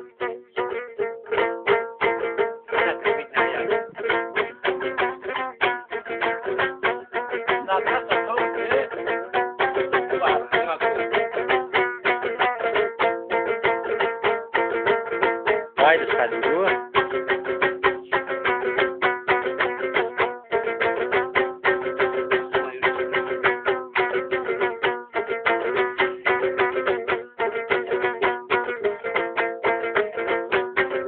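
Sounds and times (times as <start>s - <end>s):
plucked lute playing: 0.0s - 31.0s.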